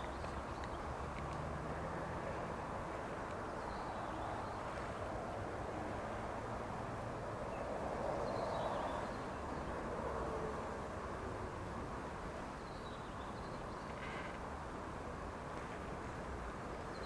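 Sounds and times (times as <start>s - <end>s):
outdoor background rush: 0.0s - 17.0s.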